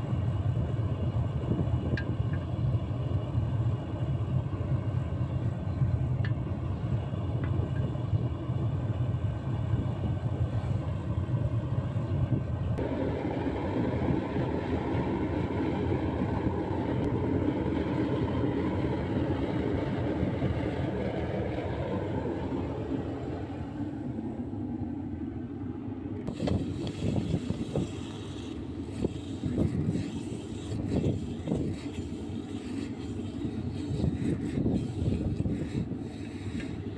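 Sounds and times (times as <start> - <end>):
furnace burner rushing: 0.0 - 25.2, 26.0 - 36.9.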